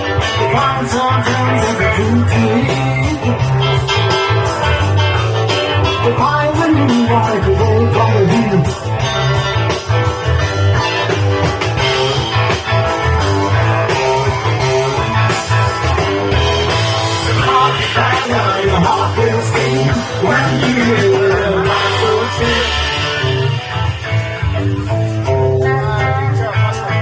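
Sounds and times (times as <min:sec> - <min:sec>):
guitar lead with bending notes: 0:00.0 - 0:27.0
rock band playing: 0:00.0 - 0:27.0.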